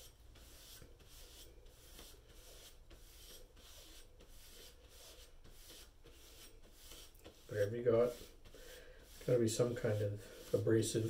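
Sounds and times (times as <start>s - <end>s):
knife blade rubbing on fabric: 0.0s - 11.0s.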